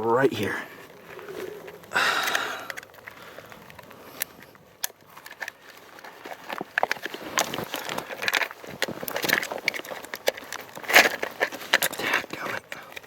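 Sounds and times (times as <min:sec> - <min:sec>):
rustle: 0:00.1 - 0:13.0
small clicks and taps: 0:01.6 - 0:13.0.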